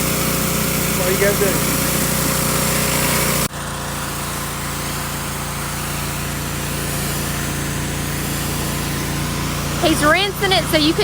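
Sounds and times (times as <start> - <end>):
pressure washer motor hum: 0.0 - 11.0
water spray hissing: 0.0 - 11.0.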